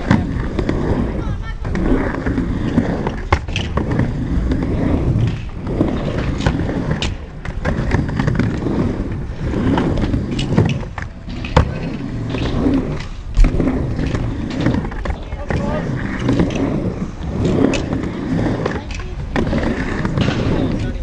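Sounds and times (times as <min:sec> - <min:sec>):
skateboard wheels rumbling: 0:00.0 - 0:21.0.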